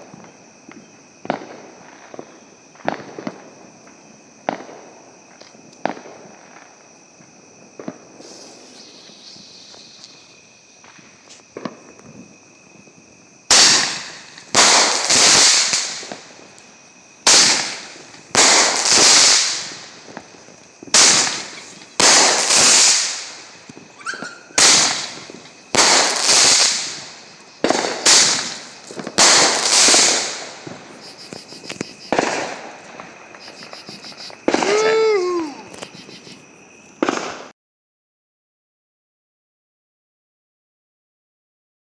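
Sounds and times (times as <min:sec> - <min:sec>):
crickets chirping: 0:00.0 - 0:37.5
fireworks popping and crackling: 0:00.0 - 0:37.5.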